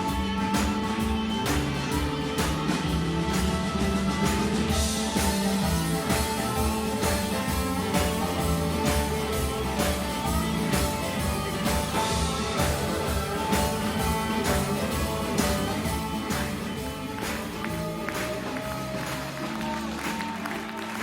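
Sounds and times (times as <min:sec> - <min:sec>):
bass guitar: 0:00.0 - 0:21.0
drums keeping a beat: 0:00.0 - 0:21.0
electric guitar: 0:00.0 - 0:21.0.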